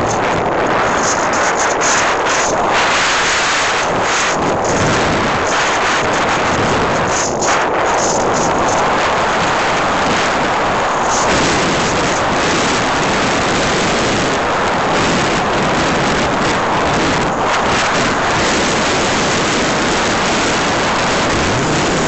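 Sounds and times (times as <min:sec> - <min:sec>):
light aircraft droning: 0:00.0 - 0:22.0
wind buffeting microphone: 0:00.0 - 0:22.0.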